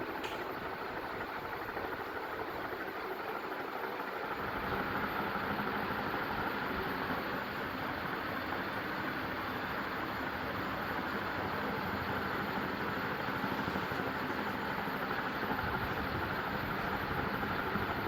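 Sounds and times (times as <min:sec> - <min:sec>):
ceiling fan running: 0:00.0 - 0:18.0.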